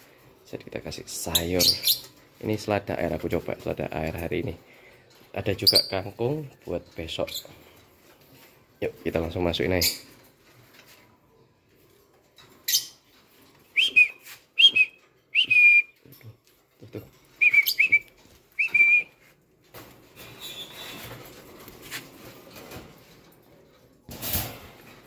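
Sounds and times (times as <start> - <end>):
greens rustling against cage wire: 0.0 - 25.0.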